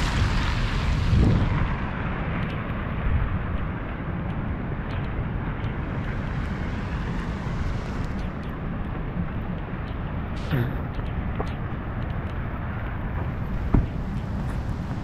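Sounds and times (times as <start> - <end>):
raindrops ticking on camera: 0.0 - 15.0
wind buffeting microphone: 0.0 - 15.0.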